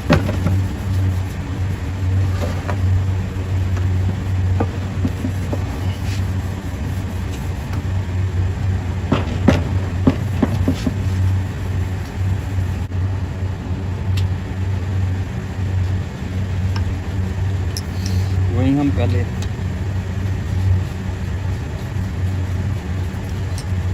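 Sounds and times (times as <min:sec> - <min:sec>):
low machinery drone: 0:00.0 - 0:23.9.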